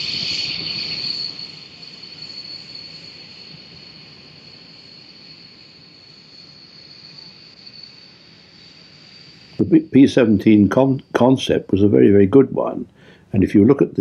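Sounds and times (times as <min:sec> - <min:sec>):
faint high-pitched whine: 0:00.0 - 0:14.0
low even hiss: 0:00.0 - 0:14.0.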